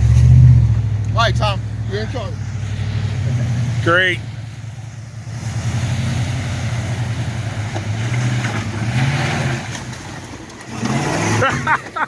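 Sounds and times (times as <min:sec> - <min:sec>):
vehicle engine under load: 0:00.0 - 0:12.0.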